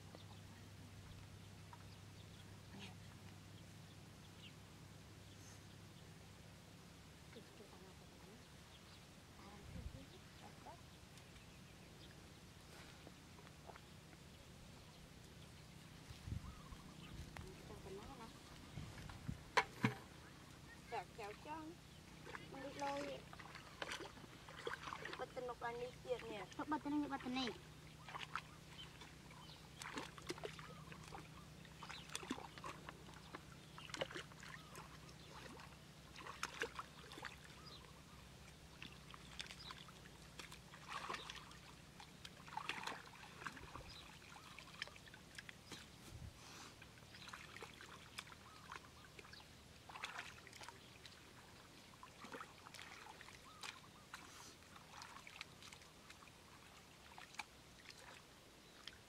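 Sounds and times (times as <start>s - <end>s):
splashing in shallow muddy water: 7.4s - 59.0s.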